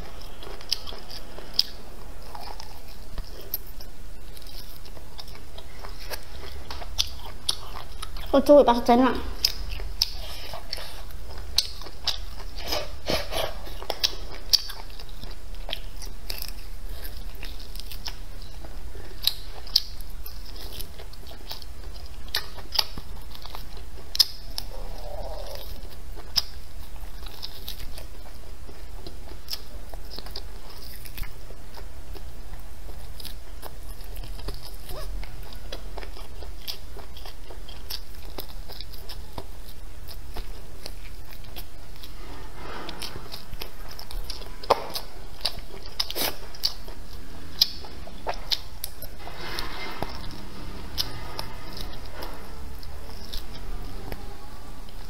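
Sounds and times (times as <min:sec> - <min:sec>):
crunchy chewing and biting: 0:00.0 - 0:08.4, 0:09.2 - 0:55.0.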